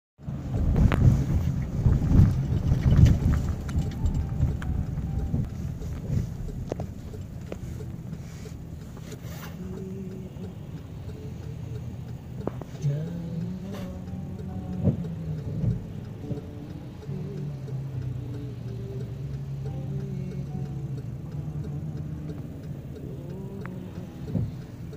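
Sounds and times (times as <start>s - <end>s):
car cabin rumble on wet road: 0.2s - 24.9s.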